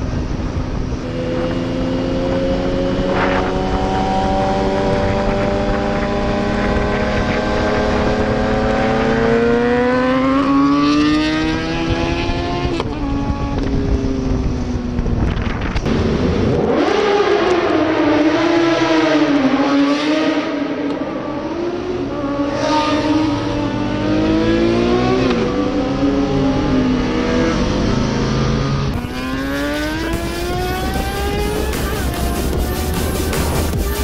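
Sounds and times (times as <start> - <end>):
sportbike engines accelerating: 0.0 - 15.1, 15.8 - 34.0
motorcycle engine revving high: 0.0 - 34.0.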